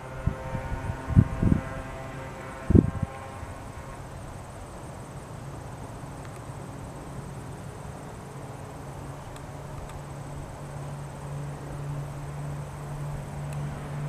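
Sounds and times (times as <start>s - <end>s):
distant twin piston engines droning: 0.0s - 14.0s.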